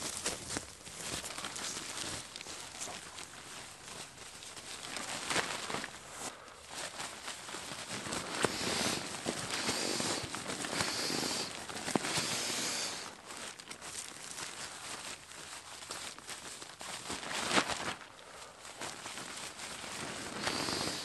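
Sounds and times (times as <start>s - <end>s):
nylon sack crinkling: 0.0s - 21.0s.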